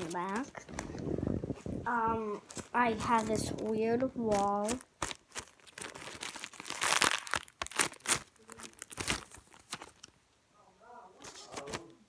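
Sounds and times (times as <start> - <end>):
paper and plastic crinkling: 0.0 - 10.2, 11.2 - 12.0.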